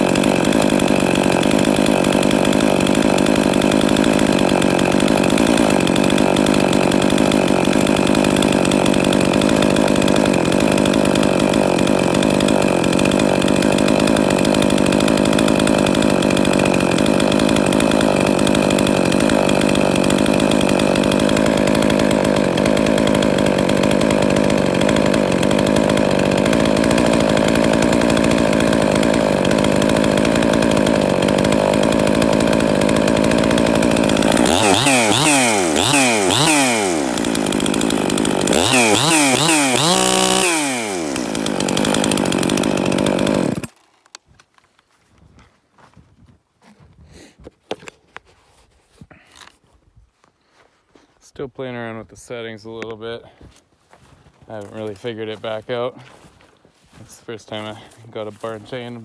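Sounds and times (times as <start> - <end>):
chainsaw running: 0.0 - 44.0, 54.5 - 59.0.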